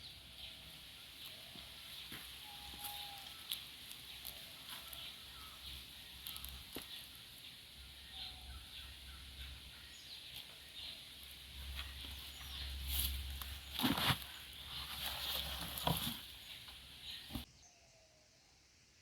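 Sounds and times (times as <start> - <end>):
rustling of soil and tubers: 0.1 - 17.5.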